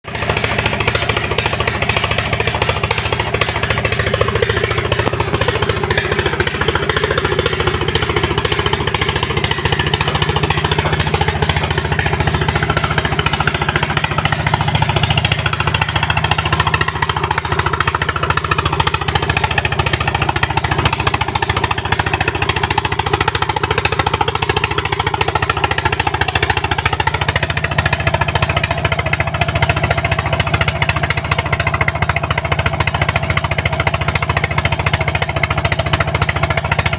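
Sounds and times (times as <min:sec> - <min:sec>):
pump engine pulsing: 0:00.0 - 0:36.9.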